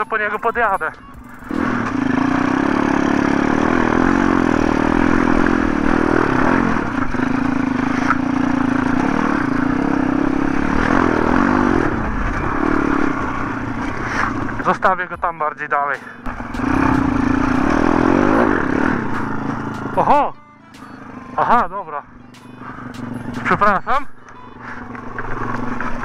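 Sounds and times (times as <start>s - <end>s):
motorbike engine under throttle: 0.0s - 26.0s.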